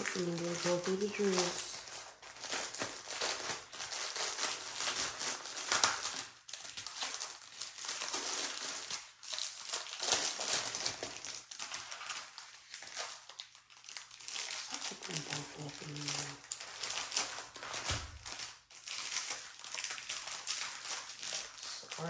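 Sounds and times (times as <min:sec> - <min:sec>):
plastic packaging crinkling: 0:00.0 - 0:22.0.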